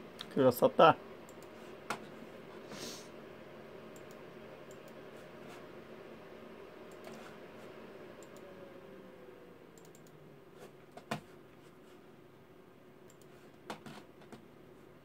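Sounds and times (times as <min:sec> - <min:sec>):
computer fans humming: 0:00.0 - 0:15.0.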